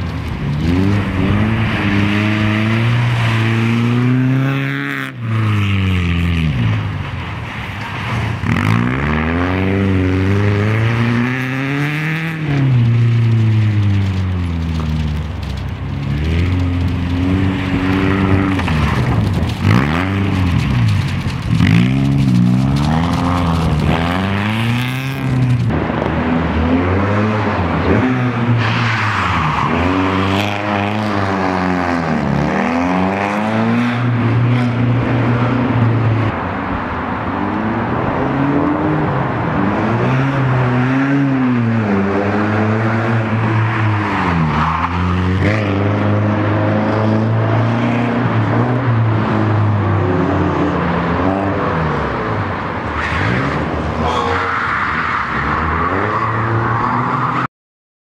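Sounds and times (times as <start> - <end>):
rally car engine revving: 0.0 - 7.0, 8.0 - 36.5, 37.4 - 57.5.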